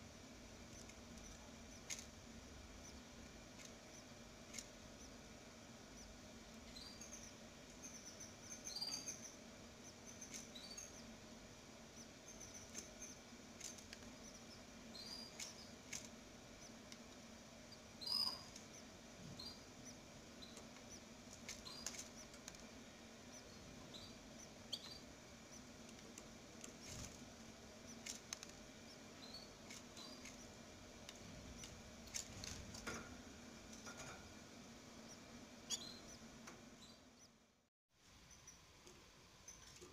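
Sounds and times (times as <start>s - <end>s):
steady low hum: 0.0s - 39.9s
canaries chirping: 0.1s - 37.4s, 38.3s - 38.6s.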